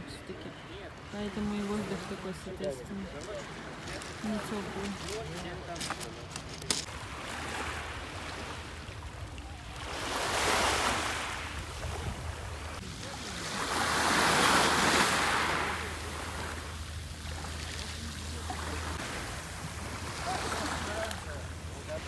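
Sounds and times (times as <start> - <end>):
waves washing onto shore: 0.6 - 22.0.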